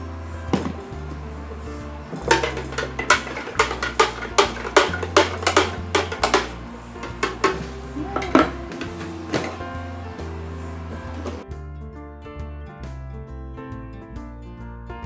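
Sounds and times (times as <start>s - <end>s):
background music with bass: 0.0s - 15.0s.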